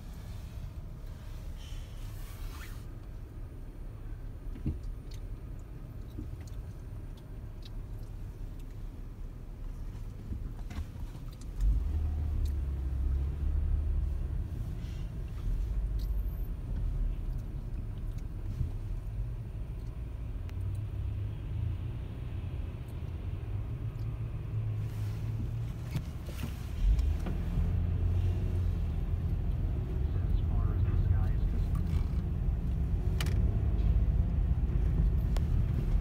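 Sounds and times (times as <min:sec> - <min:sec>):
car rumble from inside cabin: 0:00.0 - 0:36.0.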